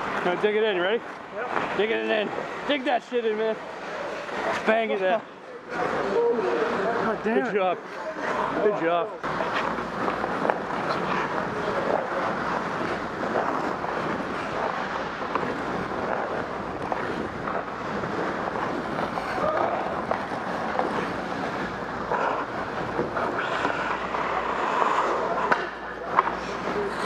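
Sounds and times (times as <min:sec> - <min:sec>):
skate blades scraping ice: 0:00.0 - 0:27.0.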